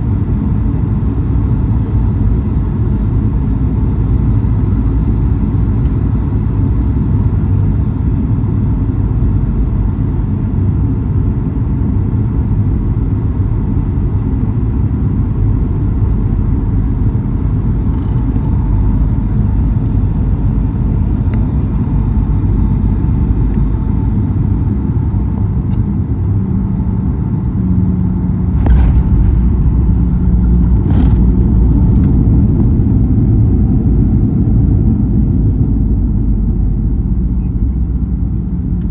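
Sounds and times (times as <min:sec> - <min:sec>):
aircraft cabin engine rumble: 0:00.0 - 0:38.9
low steady hum: 0:00.0 - 0:38.9.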